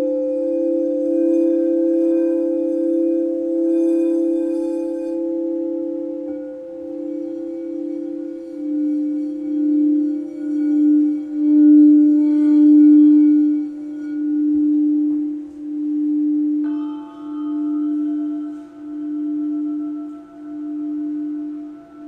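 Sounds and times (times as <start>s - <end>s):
singing bowl low tone: 0.0s - 22.0s.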